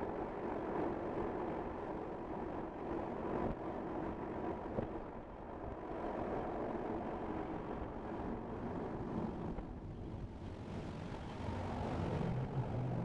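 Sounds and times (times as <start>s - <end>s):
car road and tyre noise: 0.4s - 13.0s.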